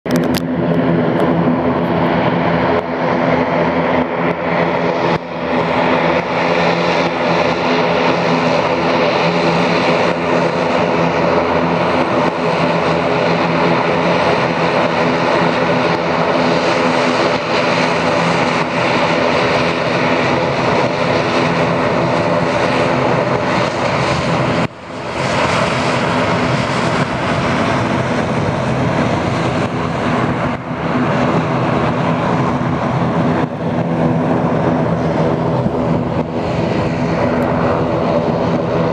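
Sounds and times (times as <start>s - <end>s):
turboprop engines running: 0.1s - 38.9s.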